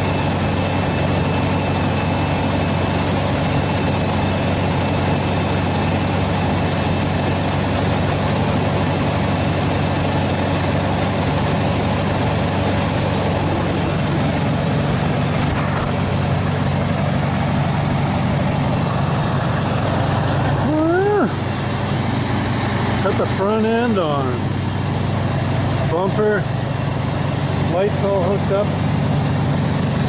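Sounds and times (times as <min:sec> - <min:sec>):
pickup engine idling: 0:00.0 - 0:30.0.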